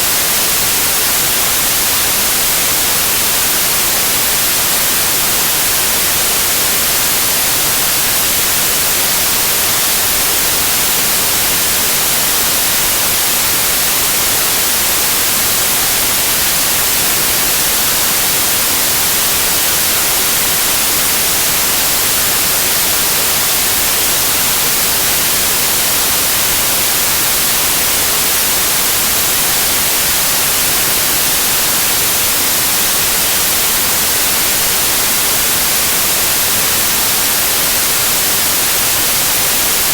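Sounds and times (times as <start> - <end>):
static white noise: 0.0 - 39.9.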